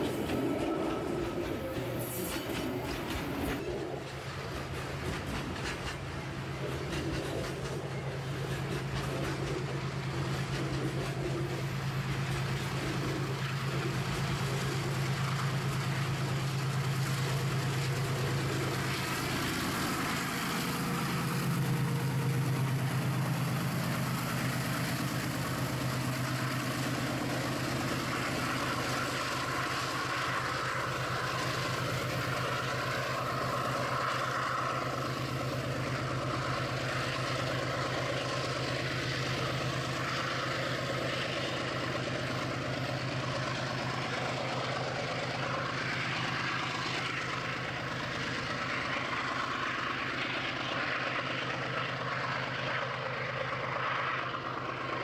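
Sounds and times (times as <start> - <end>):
locomotive engine drone: 0.0 - 55.0
train rumbling on rails: 0.0 - 55.0.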